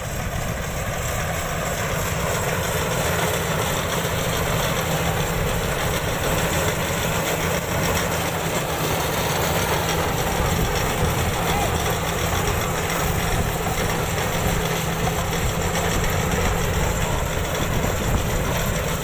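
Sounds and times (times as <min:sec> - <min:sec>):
combine harvester running: 0:00.0 - 0:19.0.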